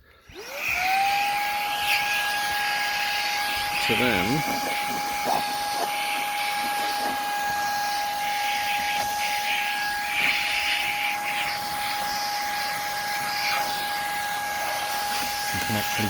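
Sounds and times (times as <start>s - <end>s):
stick vacuum whining and hissing: 0.0s - 16.0s.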